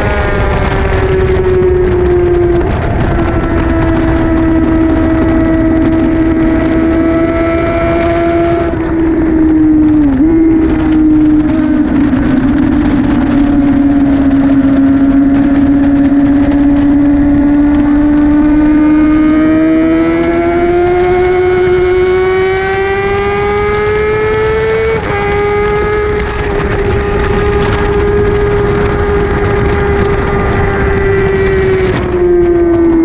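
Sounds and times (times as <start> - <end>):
motorcycle engine at high revs: 0.0 - 33.0
wind rush: 0.0 - 33.0.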